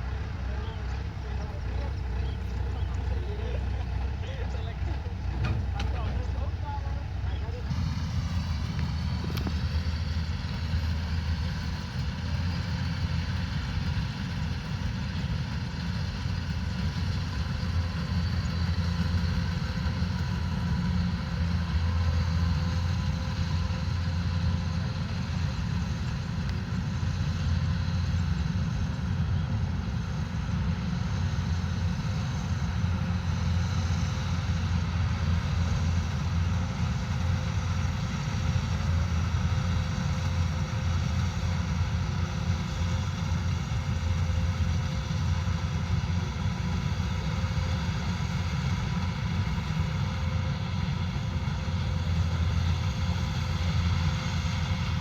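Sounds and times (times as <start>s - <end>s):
combine harvester engine droning: 0.0s - 55.0s.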